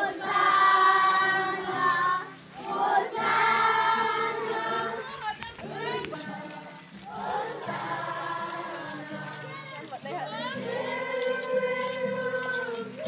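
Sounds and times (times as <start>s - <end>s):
crowd singing together: 0.0s - 13.0s.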